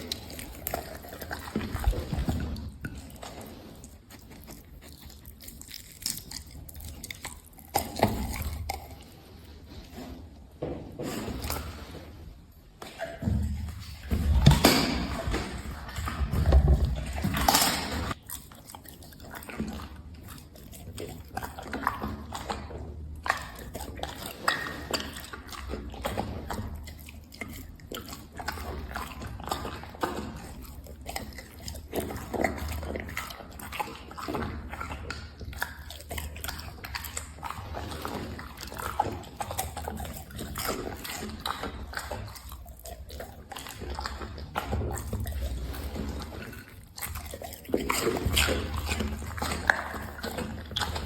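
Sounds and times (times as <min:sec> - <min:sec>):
dog chewing food: 0:00.0 - 0:51.0.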